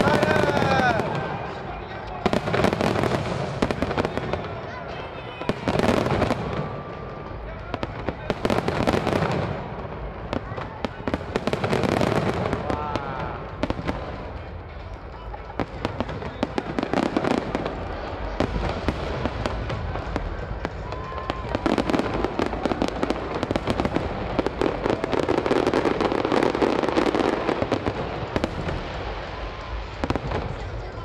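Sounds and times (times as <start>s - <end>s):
fireworks bangs and crackling: 0.0s - 31.0s
whistling fireworks: 0.0s - 31.0s.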